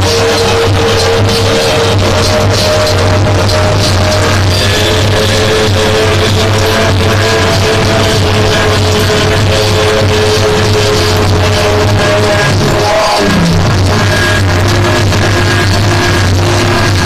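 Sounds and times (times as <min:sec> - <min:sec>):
low drone: 0:00.0 - 0:17.0
wall of distorted noise: 0:00.0 - 0:17.0.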